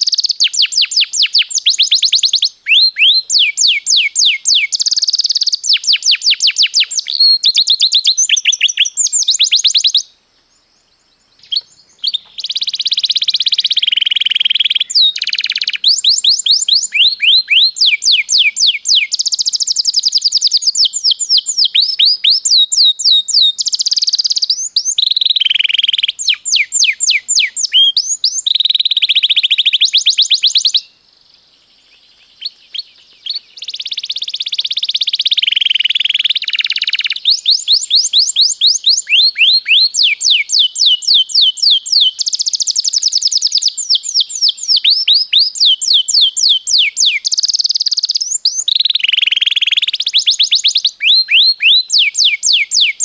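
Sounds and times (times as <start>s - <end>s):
canary singing: 0.0s - 10.1s, 11.4s - 30.9s, 32.2s - 53.0s.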